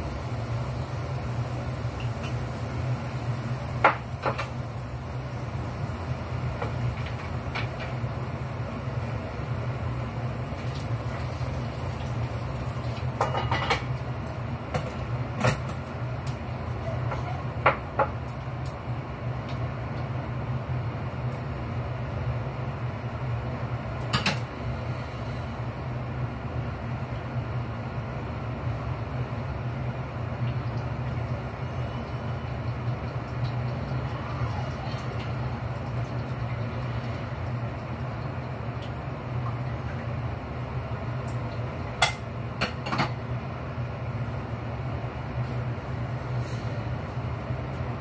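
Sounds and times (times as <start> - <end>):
range hood fan humming: 0.0 - 48.0.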